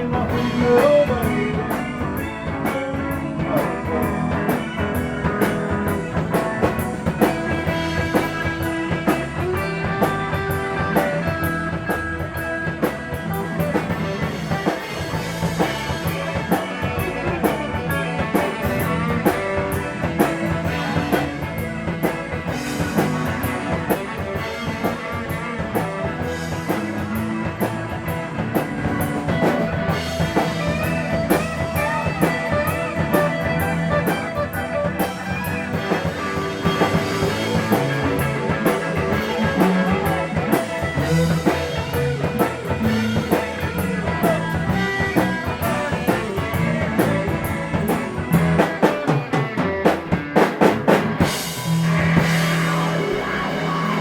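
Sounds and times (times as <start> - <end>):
bent electric guitar notes: 0.0 - 54.0
blues-rock band playing: 0.0 - 54.0.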